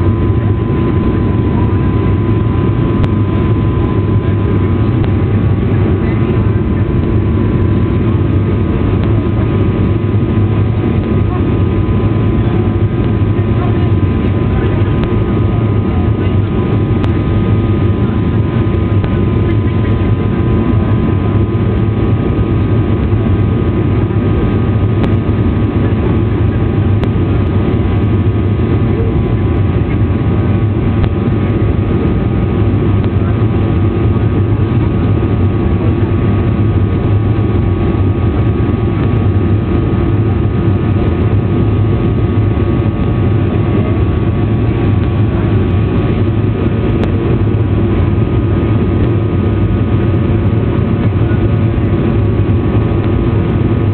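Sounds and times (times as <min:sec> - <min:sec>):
airliner engine hum: 0:00.0 - 0:53.9.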